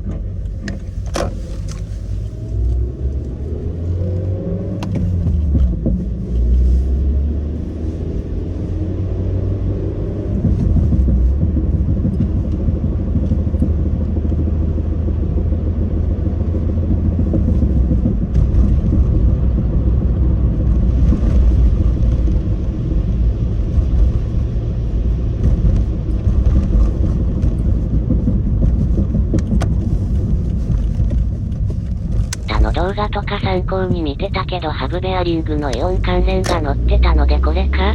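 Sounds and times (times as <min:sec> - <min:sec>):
car engine and road rumble: 0:00.0 - 0:37.9.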